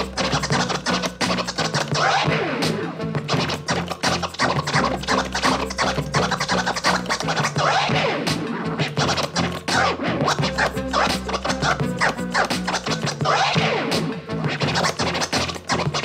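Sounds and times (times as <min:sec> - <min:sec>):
backing beat with bassline: 0:00.0 - 0:16.0
record scratching: 0:00.0 - 0:16.0.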